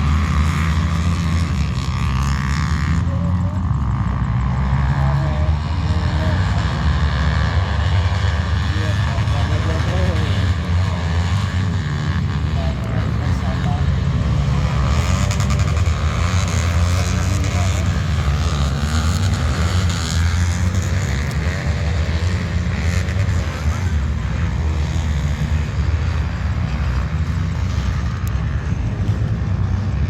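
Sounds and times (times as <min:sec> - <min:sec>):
dirt bike engines droning: 0:00.0 - 0:30.0.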